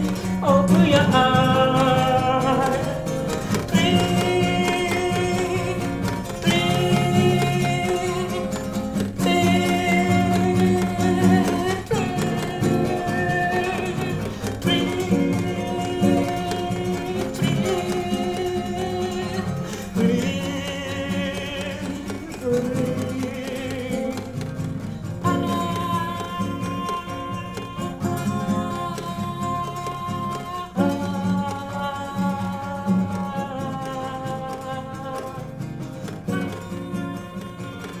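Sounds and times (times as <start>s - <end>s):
classical guitar chords: 0.0s - 38.0s.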